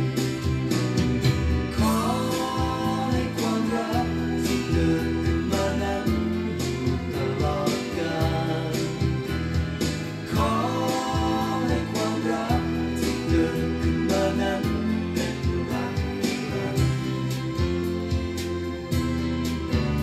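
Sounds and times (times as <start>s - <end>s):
pop love song: 0.0s - 20.0s
man singing: 1.7s - 17.8s.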